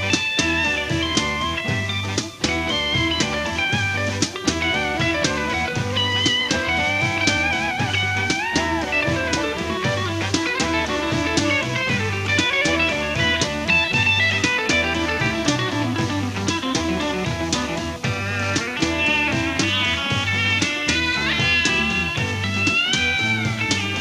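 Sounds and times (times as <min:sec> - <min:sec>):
drum kit beat: 0:00.0 - 0:24.0
electric guitar: 0:00.0 - 0:24.0.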